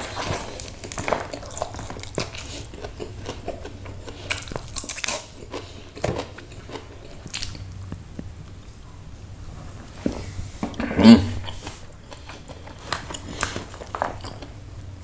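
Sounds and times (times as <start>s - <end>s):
chewing: 0.0s - 8.8s, 10.7s - 14.6s.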